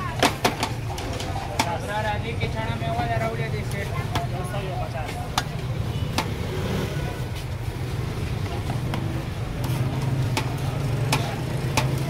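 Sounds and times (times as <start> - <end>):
street ambience: 0.0 - 12.0.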